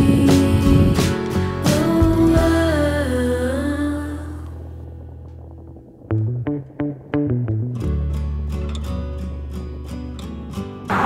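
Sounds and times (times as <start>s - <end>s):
plucked guitar and bass notes: 0.0s - 11.0s.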